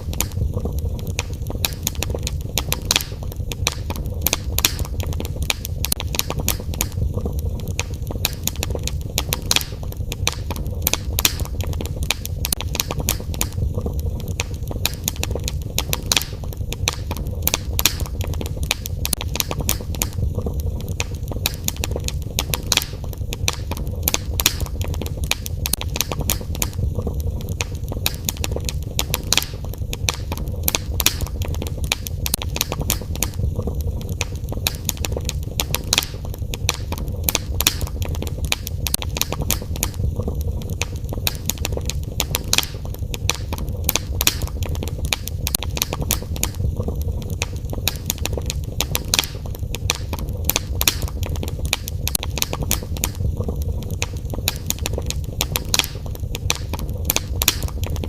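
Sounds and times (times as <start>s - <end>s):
low steady rumble: 0.0s - 58.0s
wood fire crackling: 0.0s - 58.0s.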